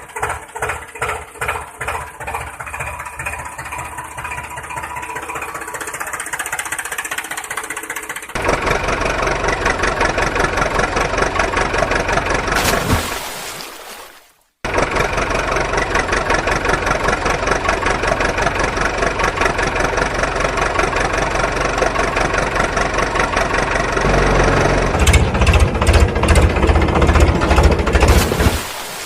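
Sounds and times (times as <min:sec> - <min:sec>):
heavy vehicle engine running: 0:00.0 - 0:12.6, 0:14.7 - 0:28.6.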